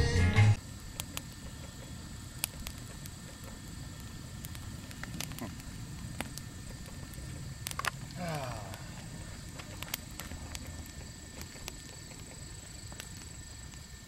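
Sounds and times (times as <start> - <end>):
campfire burning and crackling: 0.0 - 14.0
sharp pops: 0.9 - 13.9.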